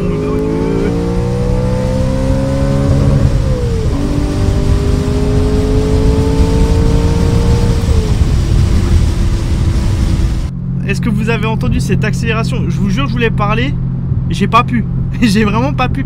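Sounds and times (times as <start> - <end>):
car engine accelerating hard: 0.0 - 15.7.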